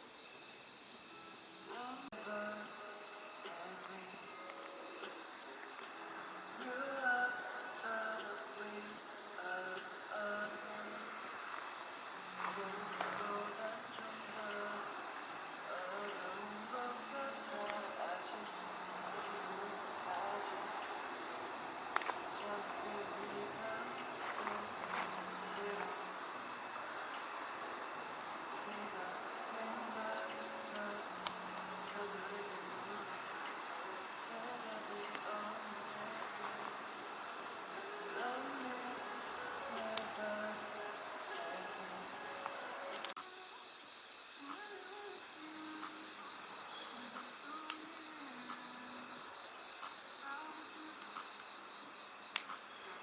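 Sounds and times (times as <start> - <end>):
faint music with held notes: 0.0 - 52.0
campfire crackles: 0.0 - 53.0
crickets trilling: 0.0 - 53.0.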